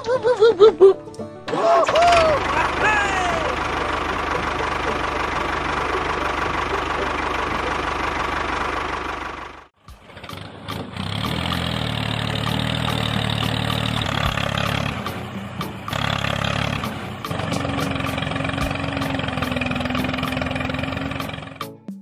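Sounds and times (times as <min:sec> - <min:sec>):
lower stronger motor: 0:03.4 - 0:21.6.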